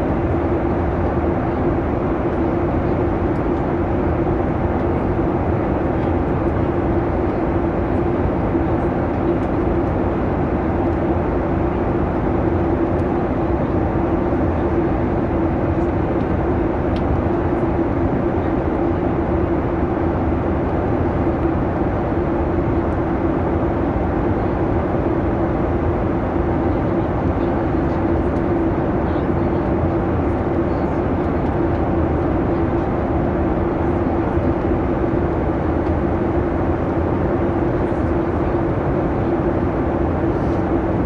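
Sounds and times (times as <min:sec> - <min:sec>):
aircraft cabin engine and airflow rush: 0:00.0 - 0:41.0
constant low hum: 0:00.0 - 0:41.0.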